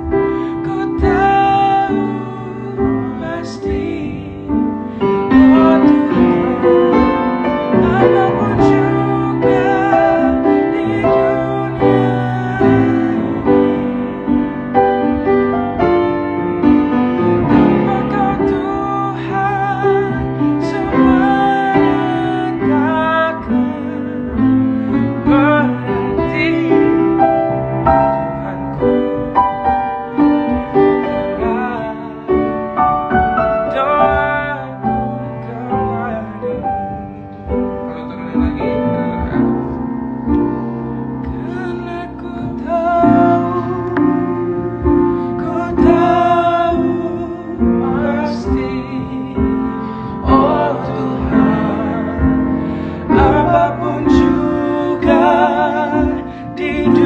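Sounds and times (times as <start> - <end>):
instrumental accompaniment: 0.0 - 57.0
man singing: 0.0 - 57.0
piano playing slow gospel song: 0.0 - 57.0.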